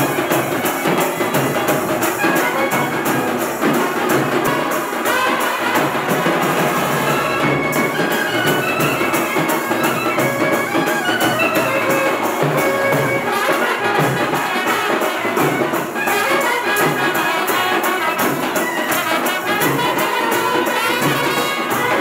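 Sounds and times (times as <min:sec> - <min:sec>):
instrumental music with beat: 0:00.0 - 0:22.0.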